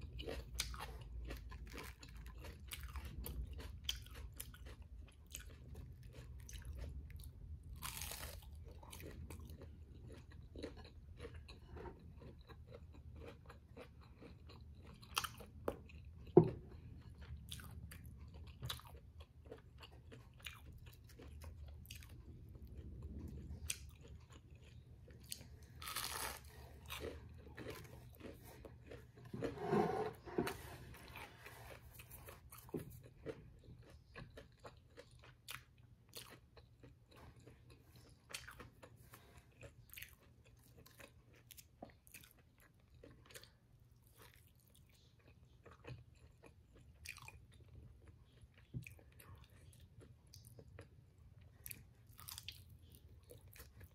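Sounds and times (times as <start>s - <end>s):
crunchy fried food eating: 0.0s - 53.9s.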